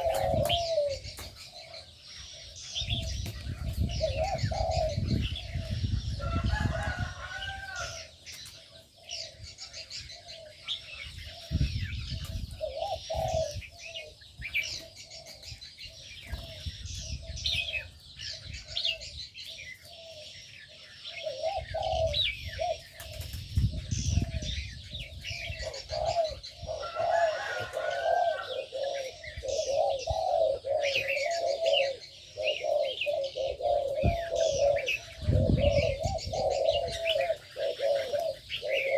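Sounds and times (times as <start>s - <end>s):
doves cooing: 0.0s - 38.9s
small birds chirping: 0.0s - 38.9s.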